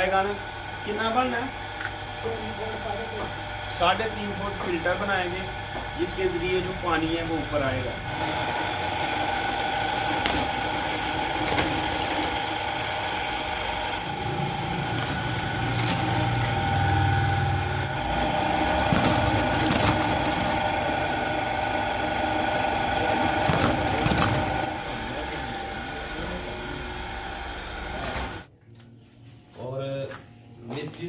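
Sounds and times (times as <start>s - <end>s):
drill press motor whine: 0.0s - 28.5s.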